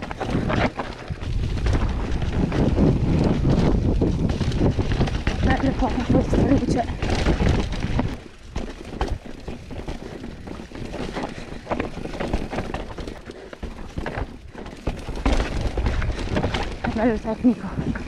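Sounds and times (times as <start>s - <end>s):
mountain bike rattling over rocks: 0.0s - 18.0s
wind rumble on microphone: 0.0s - 18.0s.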